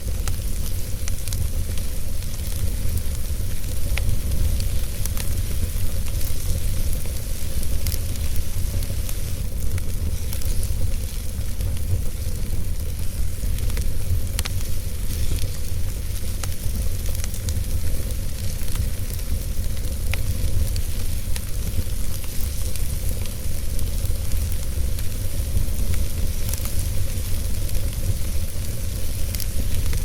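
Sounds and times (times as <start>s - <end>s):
fire crackles and pops: 0.0s - 30.0s
fire rumbling and hissing: 0.0s - 30.0s.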